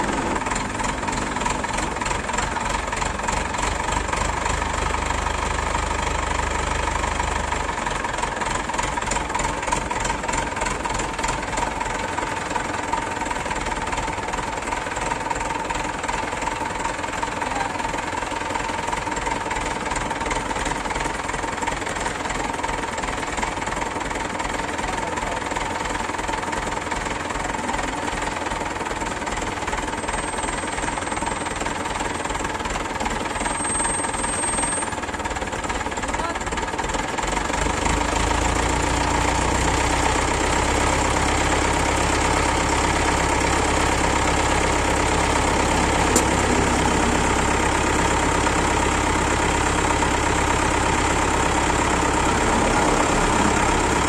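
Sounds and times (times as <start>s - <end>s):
heavy engine running: 0.0s - 54.0s.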